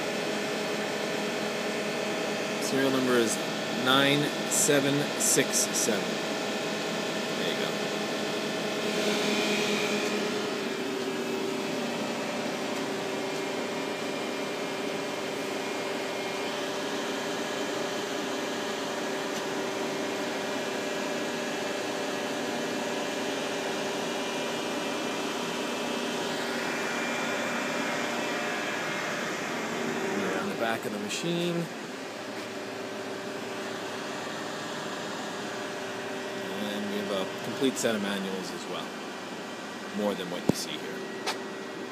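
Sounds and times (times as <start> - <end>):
even fan and pump noise: 0.0 - 41.9
machine hum: 0.0 - 41.9.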